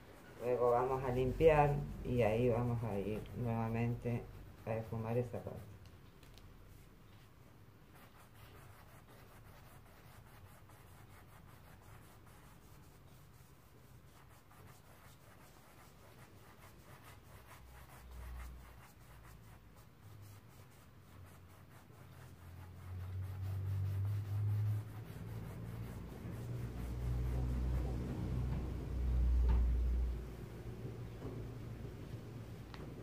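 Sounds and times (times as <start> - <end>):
paintbrush scratching on canvas: 0.0 - 5.8, 6.7 - 29.4.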